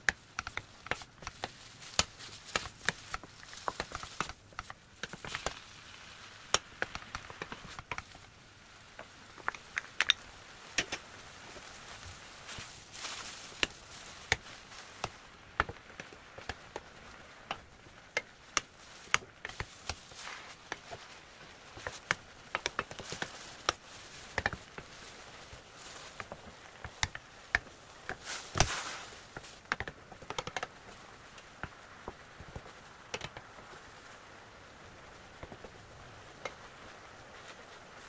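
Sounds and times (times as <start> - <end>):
wooden spatula tapping frying pan: 0.0 - 5.6, 6.4 - 34.1, 35.0 - 37.9.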